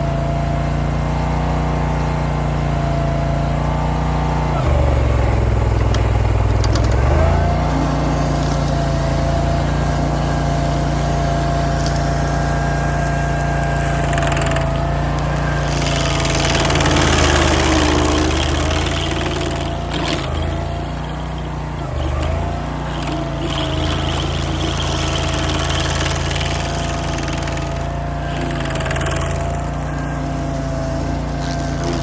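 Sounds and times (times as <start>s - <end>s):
cutter wheel grinding stump: 0.0s - 32.0s
stump grinder engine running: 0.0s - 32.0s.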